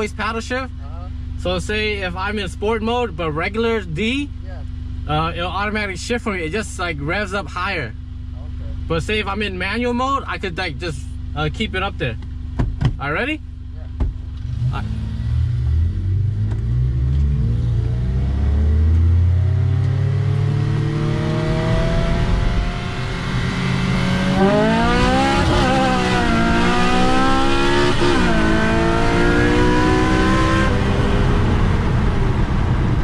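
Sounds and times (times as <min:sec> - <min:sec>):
car engines revving at full throttle: 0:01.4 - 0:33.0.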